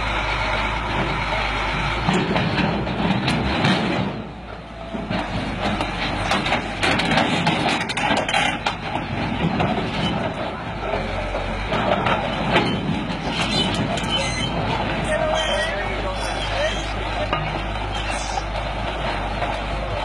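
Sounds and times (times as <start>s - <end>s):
diesel engine running: 0.0s - 20.0s
steel tracks clanking: 0.5s - 20.0s.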